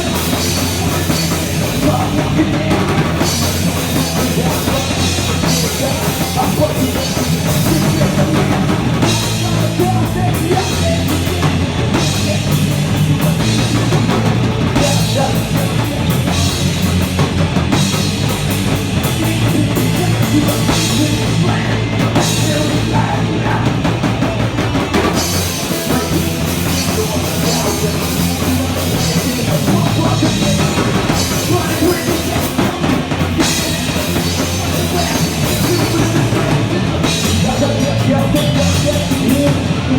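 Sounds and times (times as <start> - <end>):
pounding drum kit: 0.0 - 39.9
rock band playing live: 0.0 - 39.9.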